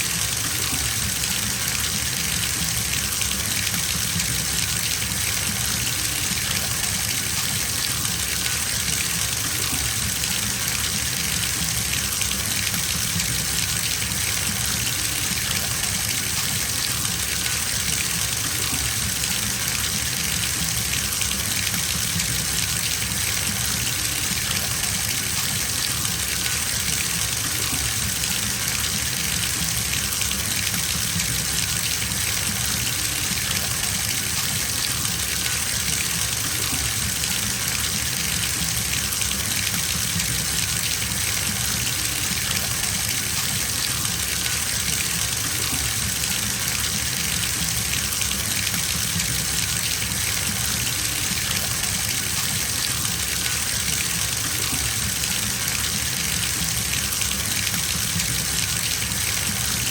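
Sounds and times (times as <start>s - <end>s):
tap water gushing into bathtub: 0.0s - 59.9s.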